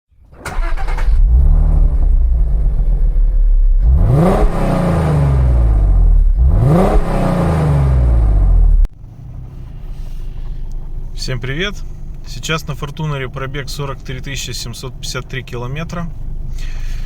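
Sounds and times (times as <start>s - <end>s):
car engine revving: 0.4s - 17.0s.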